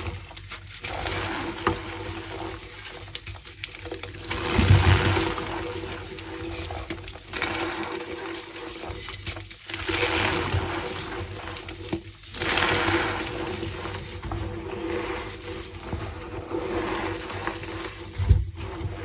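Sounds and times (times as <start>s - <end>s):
wet chalk squishing and squeaking: 0.0s - 19.0s.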